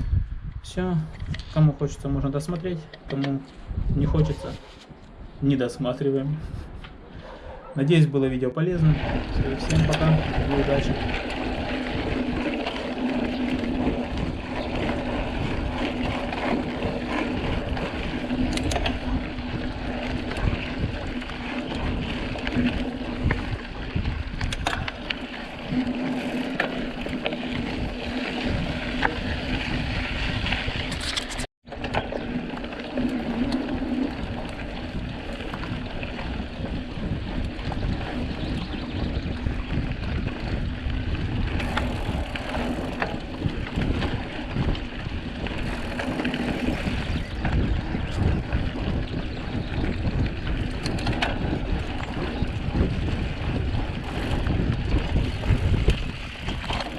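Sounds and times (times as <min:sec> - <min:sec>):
wind on microphone: 0:00.0 - 0:08.1, 0:08.7 - 0:56.9
bike tyre rumble: 0:00.0 - 0:56.9.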